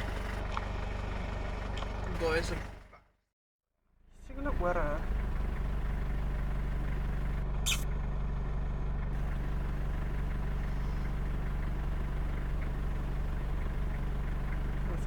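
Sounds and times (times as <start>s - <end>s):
car engine running: 0.0s - 3.0s, 4.1s - 15.0s.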